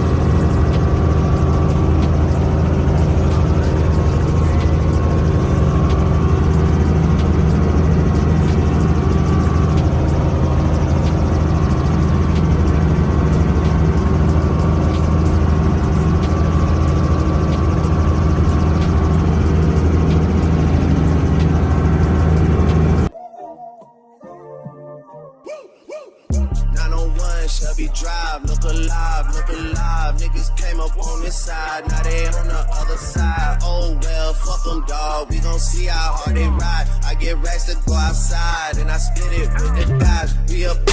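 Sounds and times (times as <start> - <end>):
helicopter rotor and engine: 0.0 - 23.1, 27.2 - 40.9.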